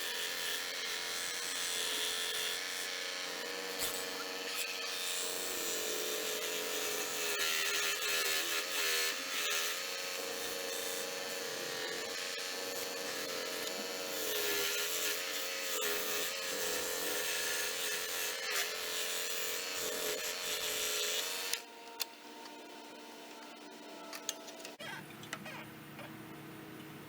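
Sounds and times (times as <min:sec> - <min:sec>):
scroll saw motor hum: 0:00.0 - 0:27.0.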